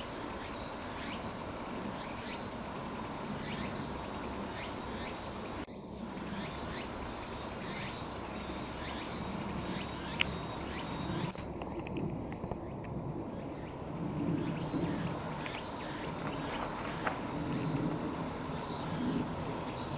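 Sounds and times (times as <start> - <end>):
cicadas calling: 0.0 - 19.9.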